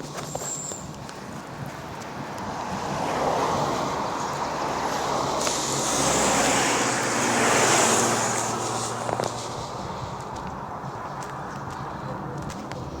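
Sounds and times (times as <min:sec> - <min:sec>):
vehicle passing on road: 0:00.0 - 0:13.0
wind on microphone: 0:00.0 - 0:13.0.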